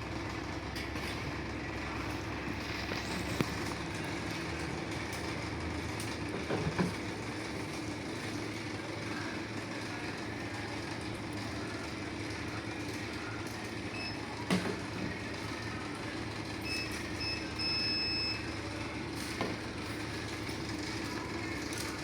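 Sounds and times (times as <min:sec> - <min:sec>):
industrial machinery humming: 0:00.0 - 0:22.0.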